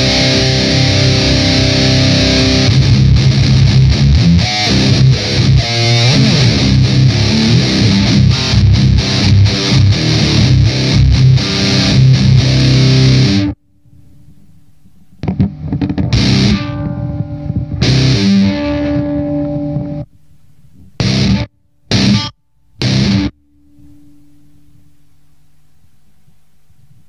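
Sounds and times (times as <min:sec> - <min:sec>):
distorted electric guitar riffs: 0:00.0 - 0:26.0.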